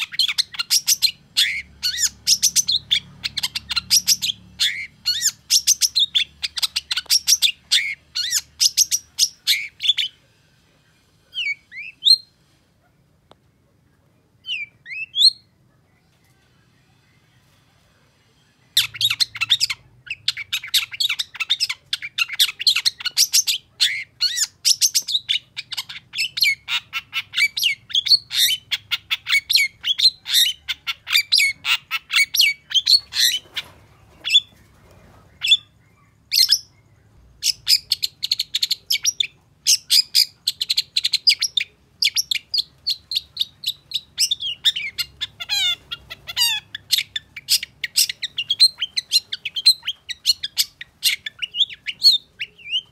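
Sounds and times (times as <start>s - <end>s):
bird chattering song: 0.0s - 10.2s, 18.7s - 52.9s.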